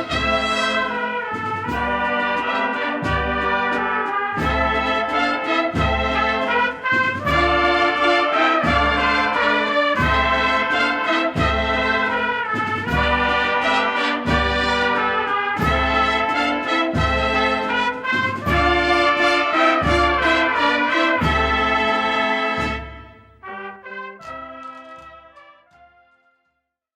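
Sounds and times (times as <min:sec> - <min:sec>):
trumpets and trombones chords: 0:00.0 - 0:26.4.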